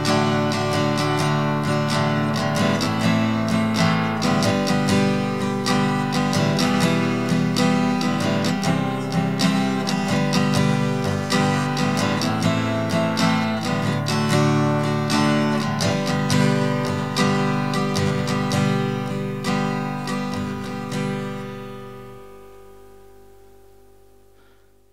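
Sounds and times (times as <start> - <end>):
acoustic guitar strumming: 0.0 - 24.7.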